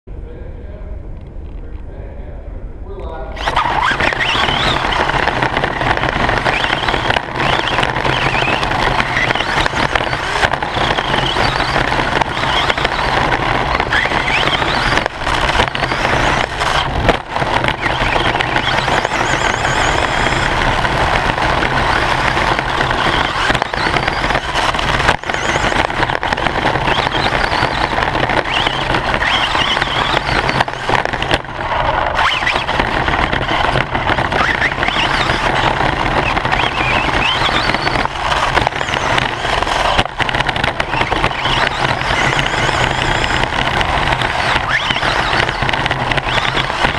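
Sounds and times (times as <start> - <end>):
rattling and tyre noise: 0.1 - 46.9
rc car motor and gear whine: 3.4 - 46.9.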